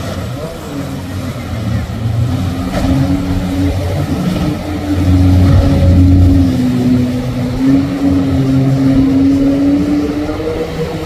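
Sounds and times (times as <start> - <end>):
boat engines droning: 0.0 - 11.0
water rushing off hull: 0.0 - 11.0.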